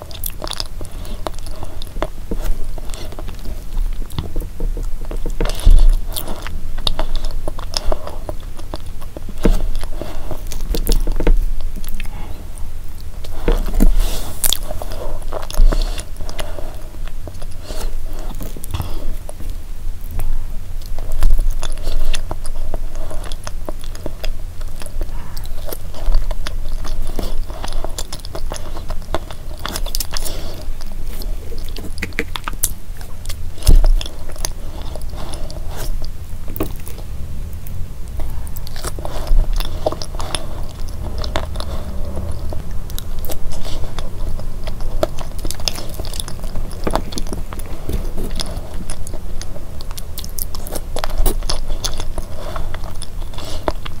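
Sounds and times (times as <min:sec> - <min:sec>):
chewing and wet mouth sounds: 0:00.0 - 0:54.0.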